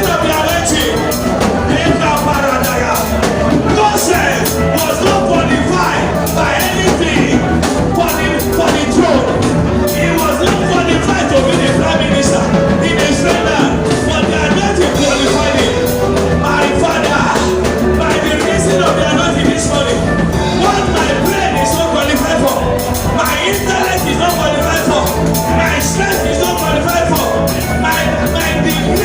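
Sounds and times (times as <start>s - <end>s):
drum kit beat: 0.0s - 29.0s
live church band music: 0.0s - 29.0s.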